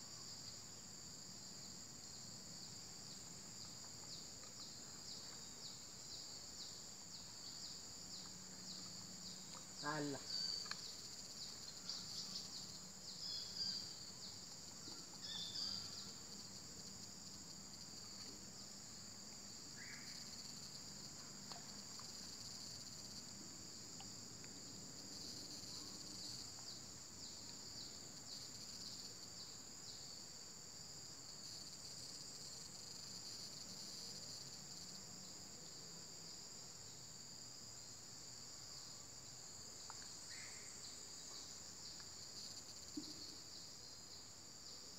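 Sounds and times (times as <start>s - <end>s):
high-pitched insect chorus: 0.0s - 44.9s
insect chirps: 0.0s - 44.9s.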